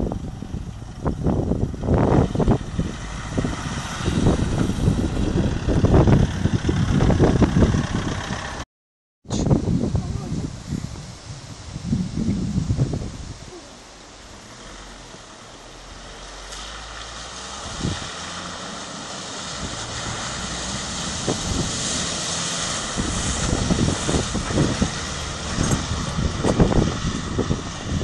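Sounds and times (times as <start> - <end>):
water spraying around wheels: 0.0 - 7.4, 9.4 - 28.0
pickup truck engine: 0.0 - 8.6, 12.4 - 28.0.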